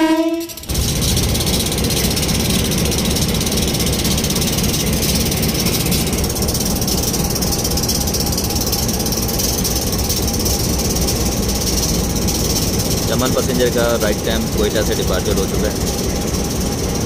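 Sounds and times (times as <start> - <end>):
diesel locomotive running: 0.0 - 17.0.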